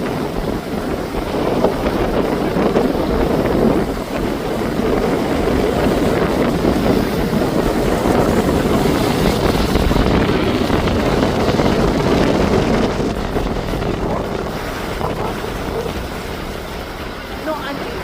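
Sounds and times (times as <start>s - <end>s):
ocean waves washing ashore: 0.0s - 18.0s
wind buffeting microphone: 0.0s - 18.0s.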